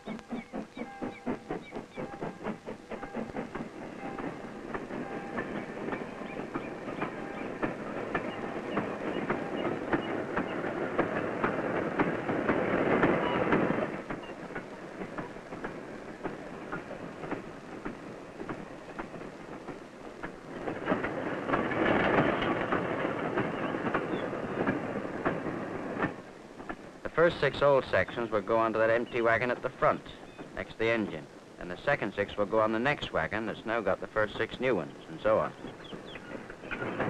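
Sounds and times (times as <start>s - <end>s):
train rumble: 0.0s - 37.0s
train wheels clicking over rail joints: 0.0s - 37.0s.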